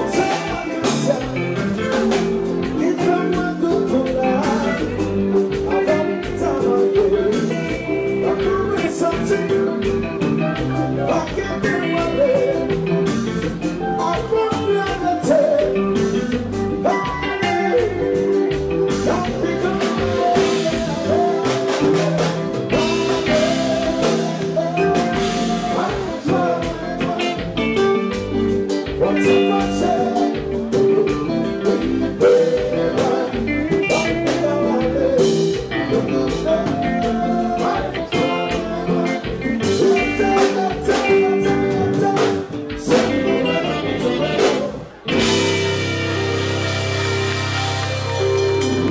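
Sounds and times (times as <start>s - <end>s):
man singing into a microphone: 0.0s - 45.4s
live band music: 0.0s - 48.9s
steady drum beat: 0.0s - 48.9s.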